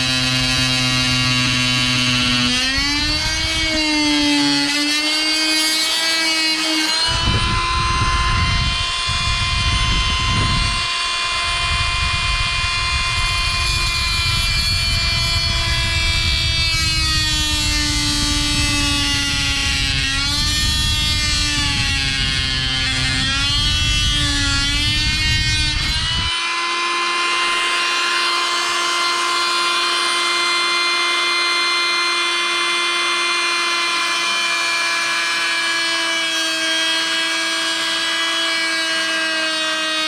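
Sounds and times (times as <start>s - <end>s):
multi-tool motor buzzing: 0.0s - 40.0s.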